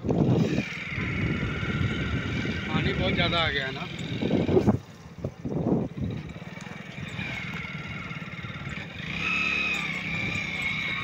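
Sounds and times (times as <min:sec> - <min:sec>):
high engine whine: 0:00.0 - 0:11.0
motorcycle engine running: 0:00.0 - 0:11.0.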